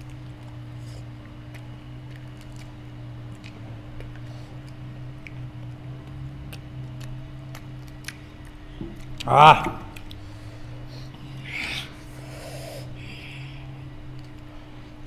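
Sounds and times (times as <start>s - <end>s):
wet chewing: 0.0s - 14.5s
steady low hum: 0.0s - 15.0s.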